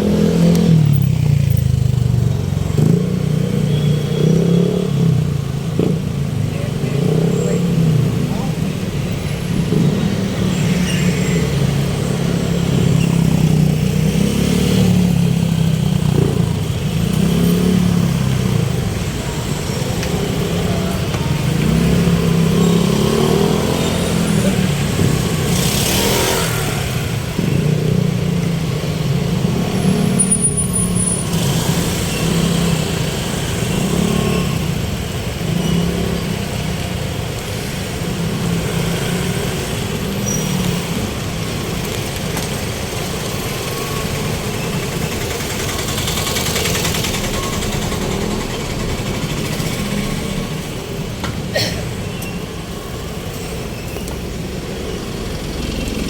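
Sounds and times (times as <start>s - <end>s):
road noise: 0.0s - 56.0s
vehicle engine humming: 0.0s - 56.0s.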